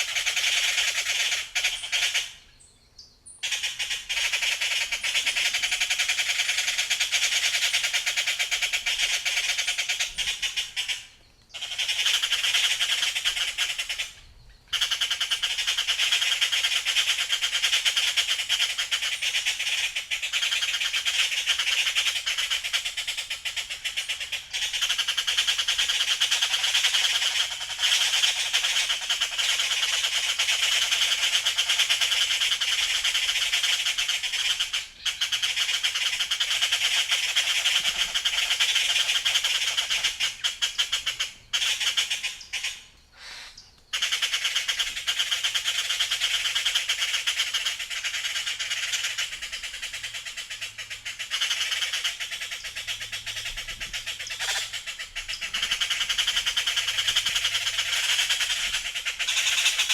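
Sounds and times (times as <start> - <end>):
chorus of birds chirping: 0.0 - 59.9.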